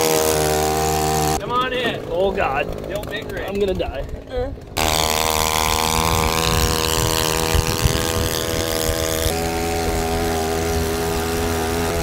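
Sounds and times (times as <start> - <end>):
small outboard motor droning: 0.0 - 12.0.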